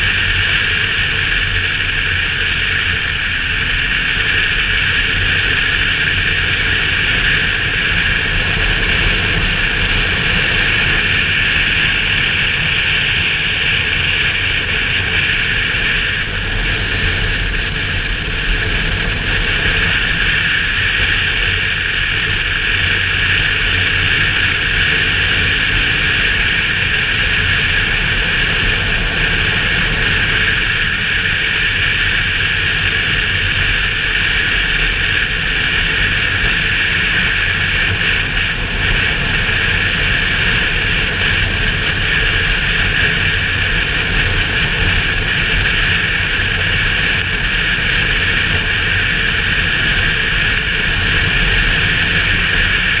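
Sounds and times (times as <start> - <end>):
motorcycle engine drone: 0.0 - 53.0
wind and road noise: 0.0 - 53.0.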